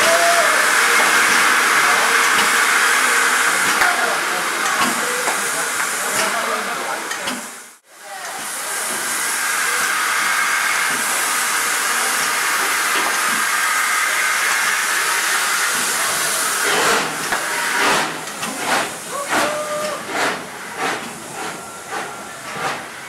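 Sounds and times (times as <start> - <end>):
steam locomotive hissing steam: 0.0 - 23.0.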